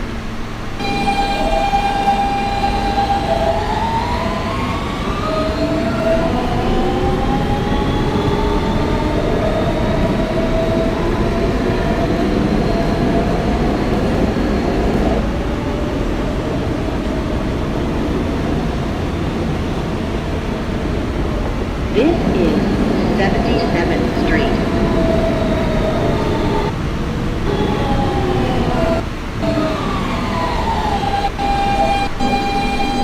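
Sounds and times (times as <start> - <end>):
wheels rumbling on rail: 0.0 - 32.0
train traction motors whining: 0.0 - 33.0.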